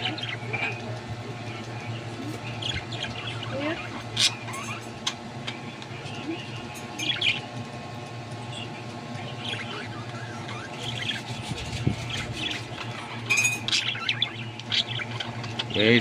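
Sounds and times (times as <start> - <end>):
budgerigars chirping: 0.0 - 7.5, 8.5 - 16.0
steady low hum: 0.0 - 16.0.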